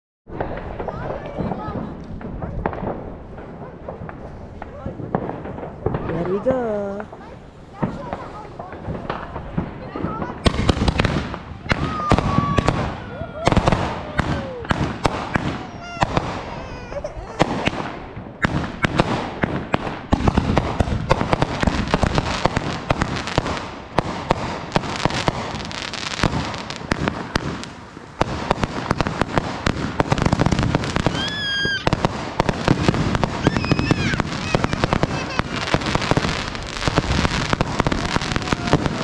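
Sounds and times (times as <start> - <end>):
fireworks bangs and crackling: 0.3 - 39.0
fireworks whistling: 3.4 - 39.0.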